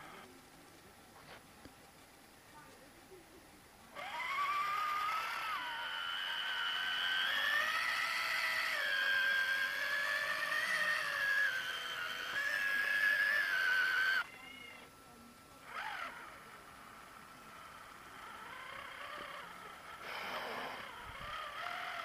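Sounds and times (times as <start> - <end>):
electric motor whining: 3.9 - 22.0.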